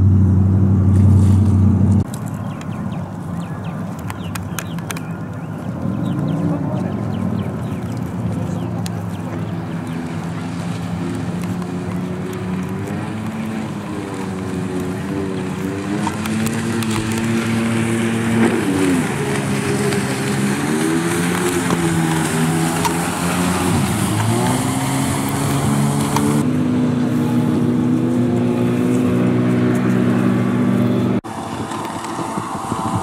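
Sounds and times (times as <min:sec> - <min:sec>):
personal watercraft engine running: 0:00.0 - 0:33.0.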